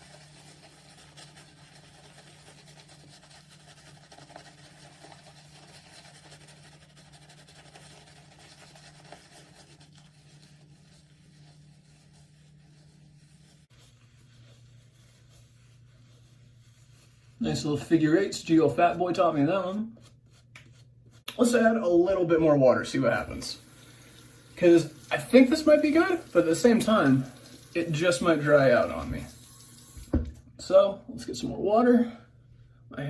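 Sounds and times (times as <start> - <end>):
shaving brush scratching lather: 0.0 - 21.3, 23.1 - 30.0.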